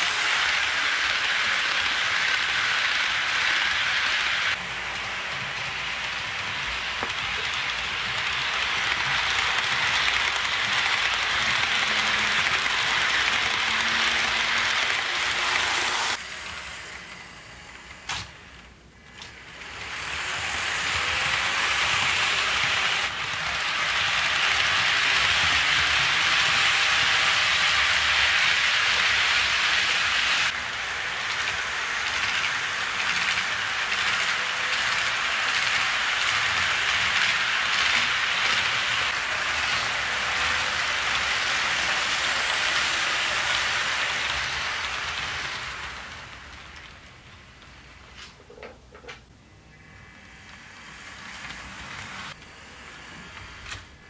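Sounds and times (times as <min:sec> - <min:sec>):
model train wheels rattling on rails: 0:00.0 - 0:49.3, 0:49.9 - 0:54.0.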